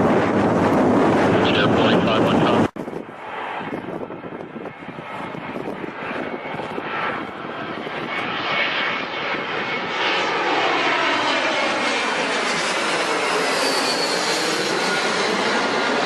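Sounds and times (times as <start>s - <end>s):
aircraft whoosh: 0.0s - 16.0s
jet engines passing: 0.0s - 16.0s.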